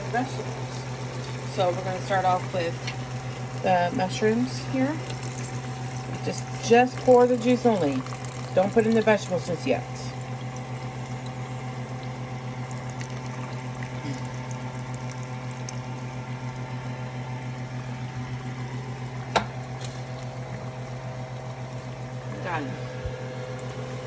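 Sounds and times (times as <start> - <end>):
liquid pouring into a pot: 0.0 - 22.4
food simmering in a pot: 0.0 - 24.0.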